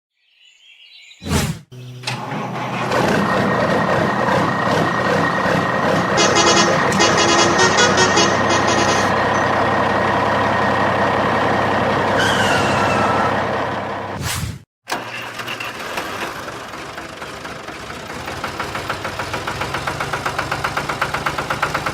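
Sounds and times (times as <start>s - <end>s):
truck engine running: 1.8s - 14.2s, 15.0s - 21.9s.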